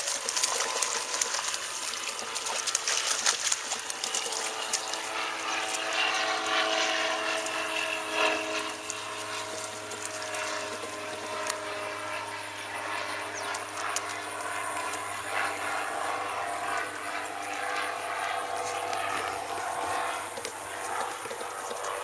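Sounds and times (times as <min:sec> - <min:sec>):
outdoor noise: 0:00.0 - 0:22.0
steady low hum: 0:00.0 - 0:22.0.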